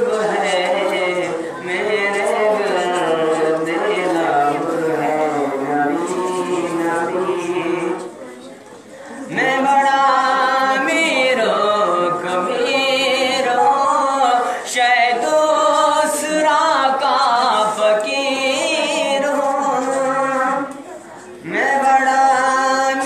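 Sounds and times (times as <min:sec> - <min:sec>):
boy singing into a microphone: 0:00.0 - 0:23.0.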